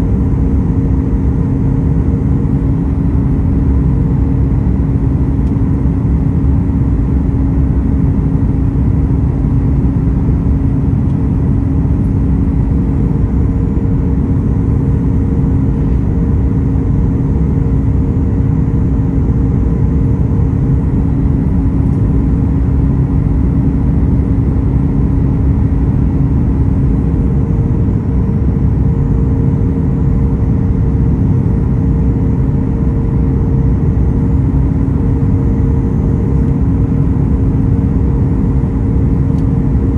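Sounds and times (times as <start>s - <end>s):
airplane cabin engine rumble: 0.0s - 39.9s
low hum: 0.0s - 39.9s.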